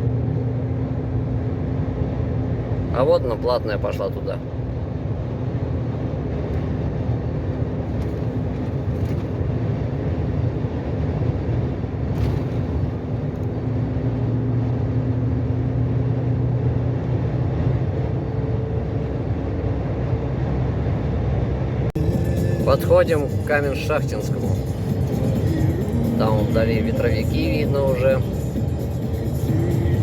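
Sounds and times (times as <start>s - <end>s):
road noise: 0.0s - 30.0s
truck diesel engine droning: 0.0s - 30.0s.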